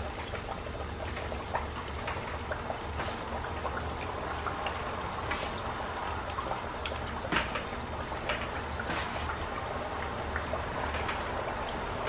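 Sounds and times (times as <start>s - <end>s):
chicken sizzling in hot oil: 0.0s - 12.0s
oil popping and crackling: 0.0s - 12.0s.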